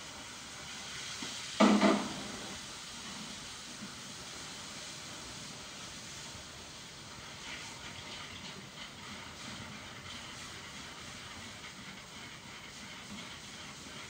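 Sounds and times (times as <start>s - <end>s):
gas stove hiss: 0.0s - 14.0s.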